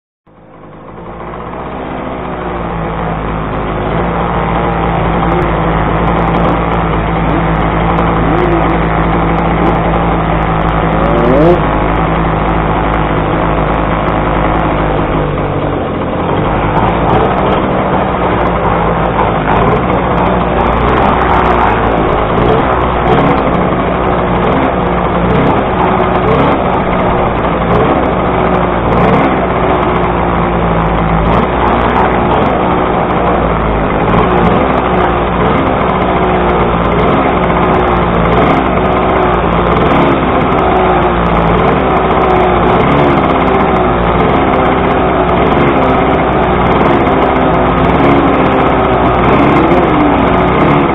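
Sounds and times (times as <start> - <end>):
two-stroke engine idling: 0.3 - 50.9
two-stroke engines revving: 0.3 - 50.9.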